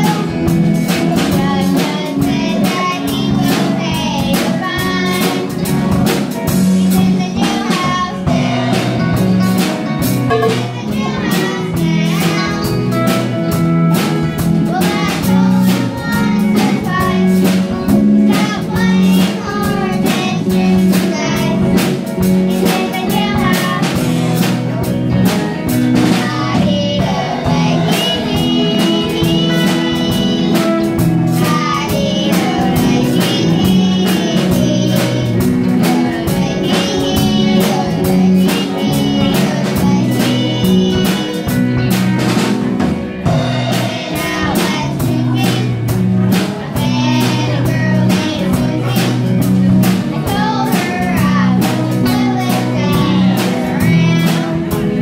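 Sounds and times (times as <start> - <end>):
girls singing country song: 0.0 - 24.6, 25.7 - 42.4, 43.3 - 55.0
drum kit steady beat: 0.0 - 55.0
guitars: 0.0 - 55.0.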